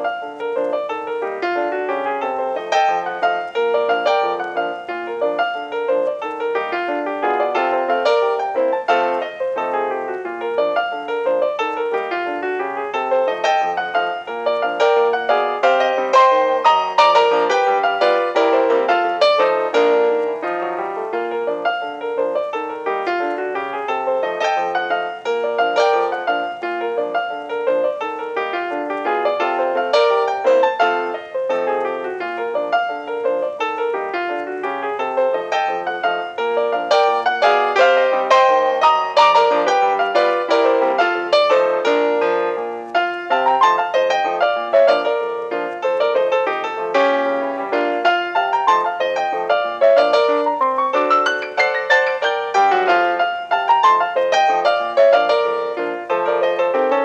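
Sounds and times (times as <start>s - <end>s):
fast piano music: 0.0s - 57.0s.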